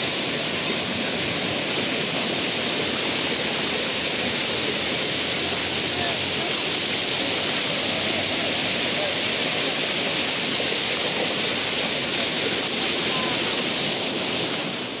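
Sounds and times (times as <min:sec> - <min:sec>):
sea surf washing: 0:00.0 - 0:15.0.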